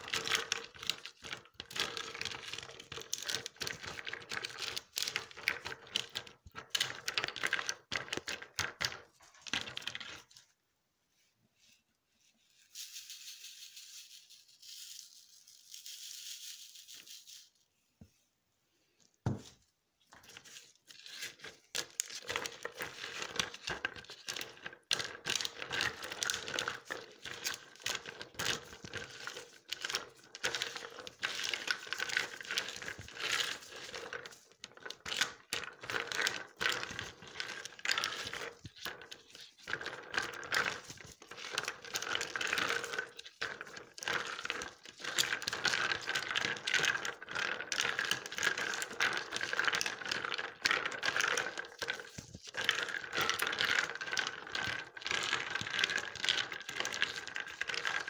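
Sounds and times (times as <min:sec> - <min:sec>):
scraping and clicking of mixing: 0:00.0 - 0:10.4, 0:20.1 - 0:58.0.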